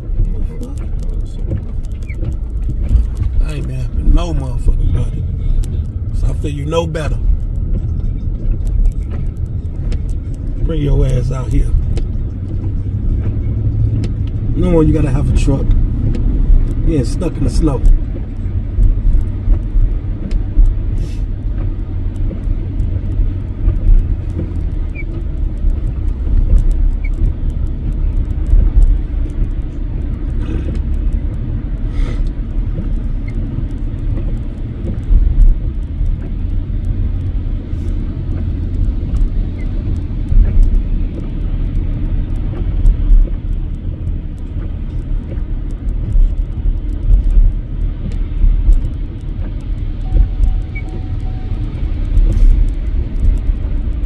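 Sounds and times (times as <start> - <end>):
truck engine and tyres rumbling: 0.0 - 54.0.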